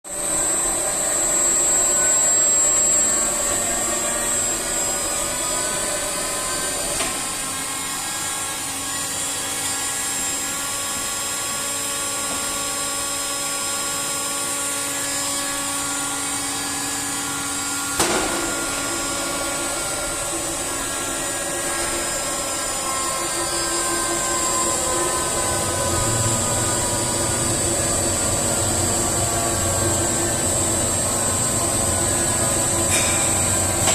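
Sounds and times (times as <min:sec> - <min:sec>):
air compressor running: 0:00.1 - 0:33.9.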